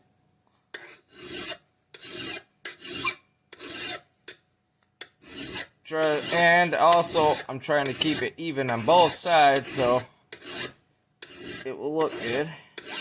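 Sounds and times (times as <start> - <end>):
file rasping on steel: 0.8 - 4.4, 5.0 - 13.0.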